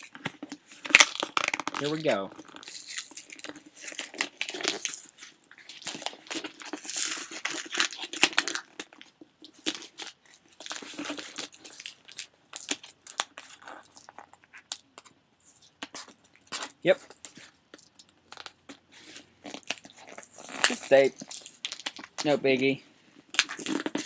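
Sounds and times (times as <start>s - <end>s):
packaging torn and crinkled: 0.0s - 14.9s, 15.5s - 22.7s, 23.3s - 24.0s.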